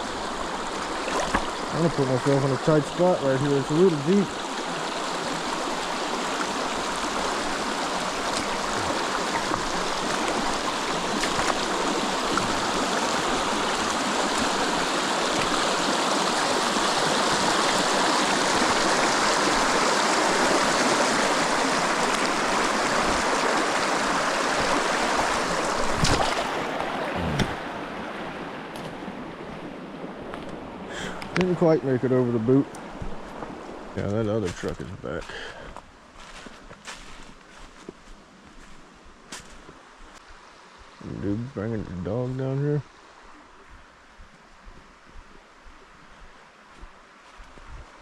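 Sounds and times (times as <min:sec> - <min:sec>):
creek water rushing: 0:00.0 - 0:48.0.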